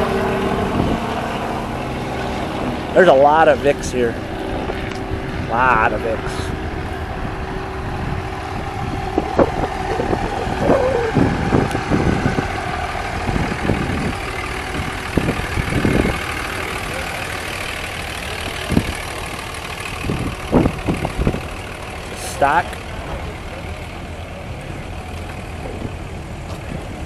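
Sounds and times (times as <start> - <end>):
car engines idling: 0.0 - 27.0.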